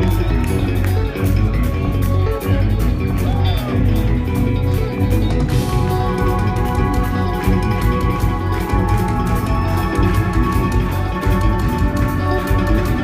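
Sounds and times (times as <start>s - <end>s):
progressive metal band playing: 0.0s - 13.0s.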